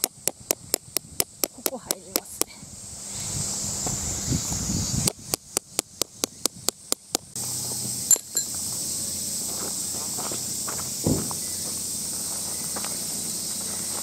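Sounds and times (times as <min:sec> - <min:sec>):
steady high hiss: 0:00.0 - 0:14.0.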